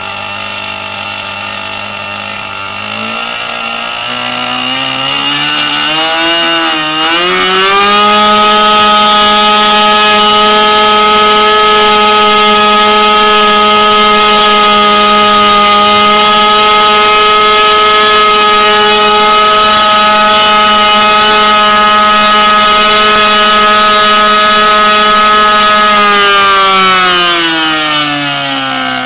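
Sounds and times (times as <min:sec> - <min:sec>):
model aircraft engine running: 0:00.0 - 0:29.0.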